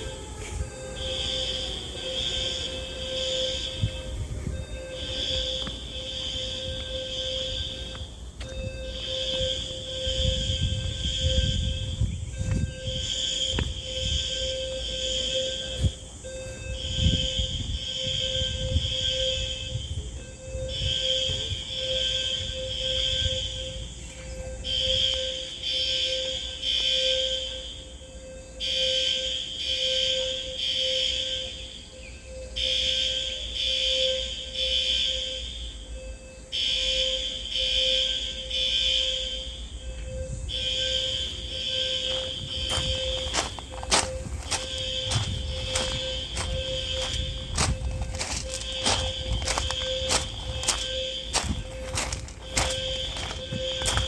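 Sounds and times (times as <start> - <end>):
fire alarm pulses: 0.0 - 54.0.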